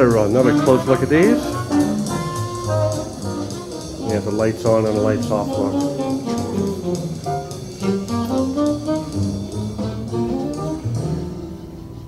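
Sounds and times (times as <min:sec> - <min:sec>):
jazz over hi-fi: 0:00.0 - 0:12.0.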